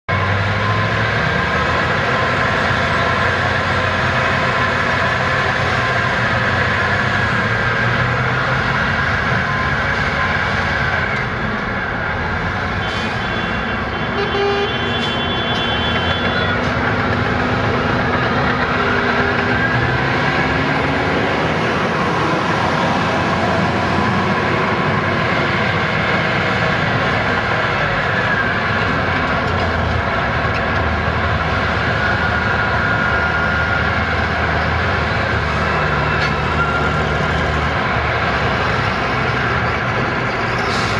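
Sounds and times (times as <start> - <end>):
heavy diesel machines running: 0.1 - 40.9.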